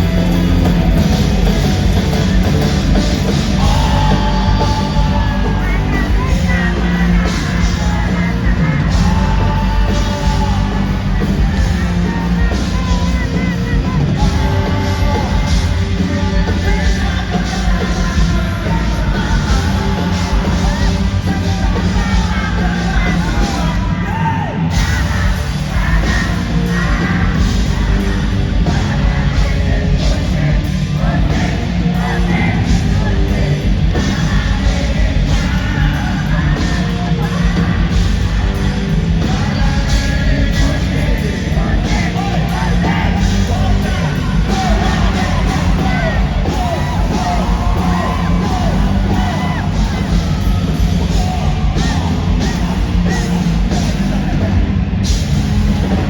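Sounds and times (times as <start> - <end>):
crowd yelling and singing along: 0.0 - 56.0
rock band playing: 0.0 - 56.0
vocalist singing: 0.0 - 56.0.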